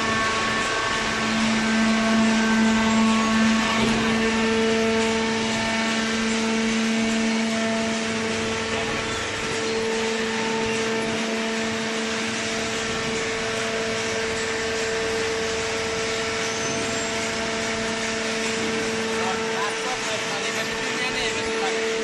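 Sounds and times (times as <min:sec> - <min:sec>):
electric motor and hydraulic pump humming: 0:00.0 - 0:22.0.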